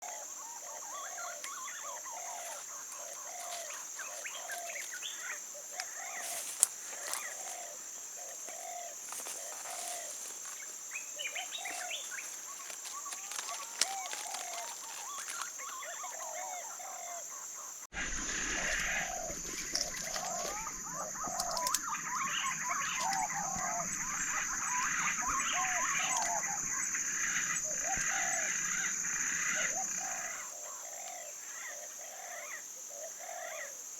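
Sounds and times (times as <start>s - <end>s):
birds calling: 0.0s - 33.8s.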